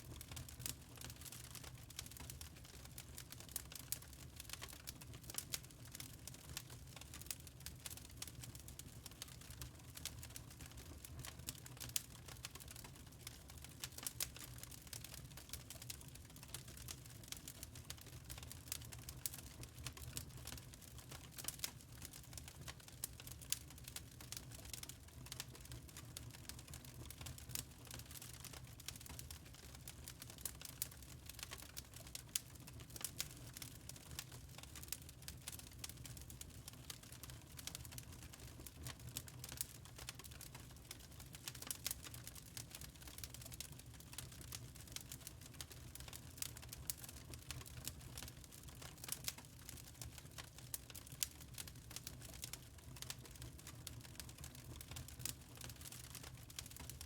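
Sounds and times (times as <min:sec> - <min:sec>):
fire crackles and pops: 0:00.0 - 0:57.0.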